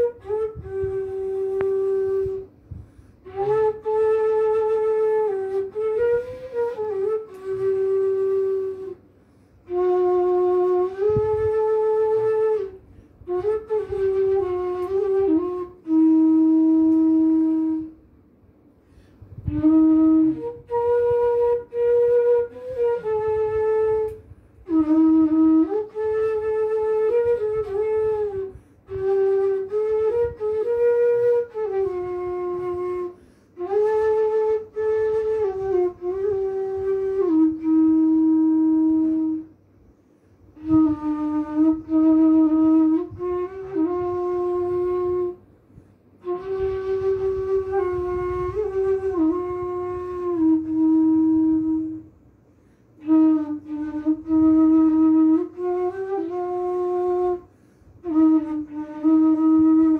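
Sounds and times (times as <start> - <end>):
bamboo flute melody: 0.0 - 2.6, 3.2 - 18.0, 19.4 - 39.6, 40.5 - 45.5, 46.1 - 52.2, 53.0 - 59.9.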